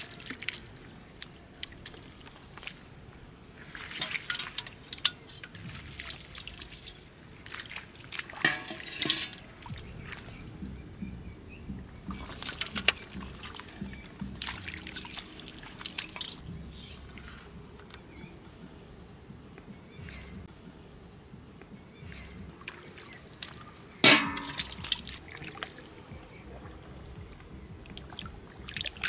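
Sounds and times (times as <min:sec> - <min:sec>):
muddy water sloshing and splashing: 0:00.0 - 0:20.5, 0:21.8 - 0:29.0.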